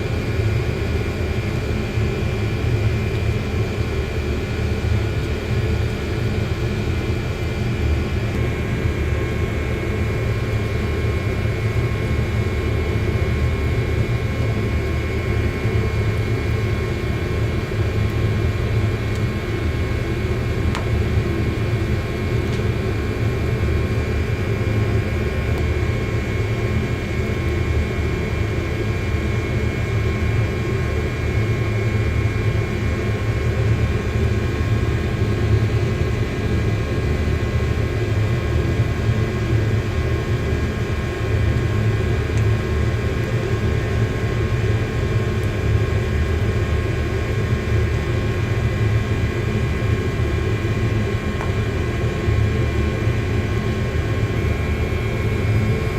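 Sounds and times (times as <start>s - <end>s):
faint steady whine: 0.0s - 55.9s
machine low rumble: 0.0s - 55.9s.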